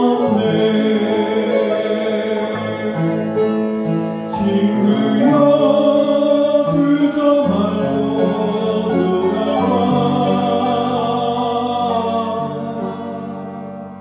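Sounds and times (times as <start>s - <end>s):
man singing: 0.0s - 3.6s, 4.3s - 13.7s
upright piano playing a hymn: 0.0s - 14.0s.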